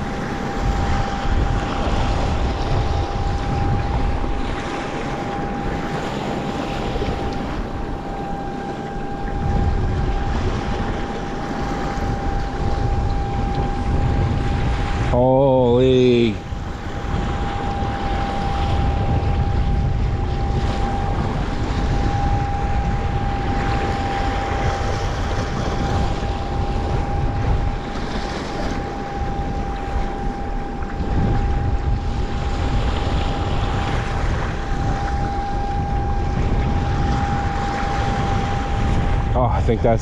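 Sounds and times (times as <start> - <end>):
rushing surf: 0.0 - 40.0
thin steady high tone: 0.0 - 40.0
wind buffeting microphone: 0.0 - 40.0.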